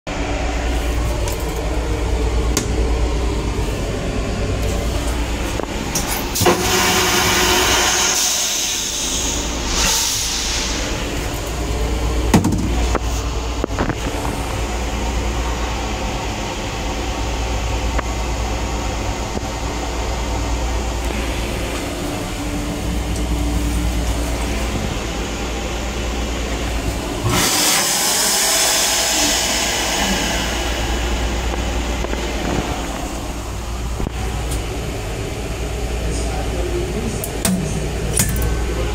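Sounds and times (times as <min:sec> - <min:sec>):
railcar rumble: 0:00.1 - 0:38.9.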